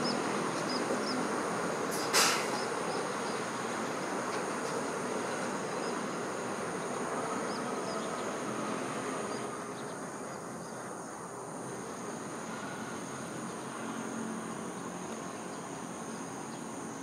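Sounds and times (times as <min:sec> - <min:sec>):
insects chirring: 0:00.0 - 0:17.0
train rumble: 0:00.0 - 0:17.0.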